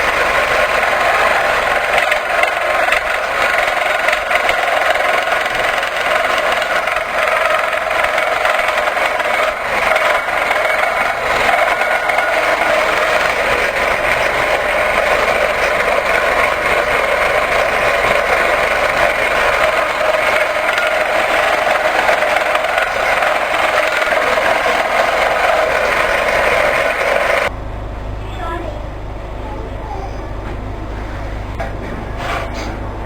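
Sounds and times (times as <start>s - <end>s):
power tool running: 0.0s - 27.5s.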